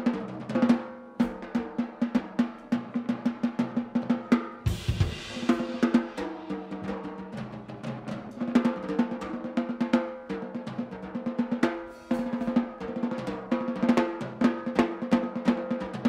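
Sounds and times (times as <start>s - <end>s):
drum kit playing busily: 0.0s - 16.0s.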